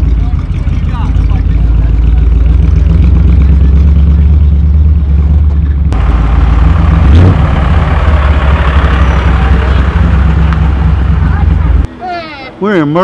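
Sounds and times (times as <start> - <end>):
truck engine running: 0.0 - 11.9.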